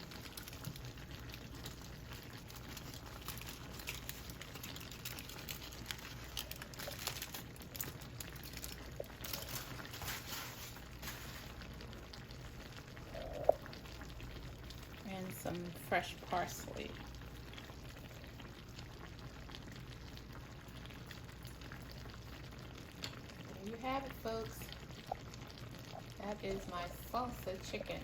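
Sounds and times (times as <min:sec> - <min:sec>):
chicken simmering in a pan: 0:00.0 - 0:28.0
low steady hum: 0:00.0 - 0:28.0.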